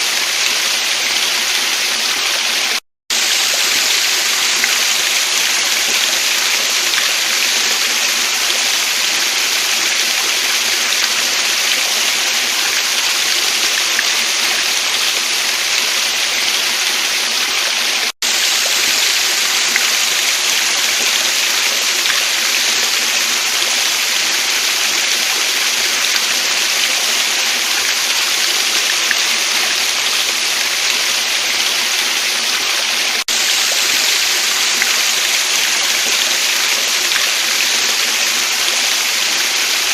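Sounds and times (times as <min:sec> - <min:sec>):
waterfall and stream flowing: 0:00.0 - 0:39.9.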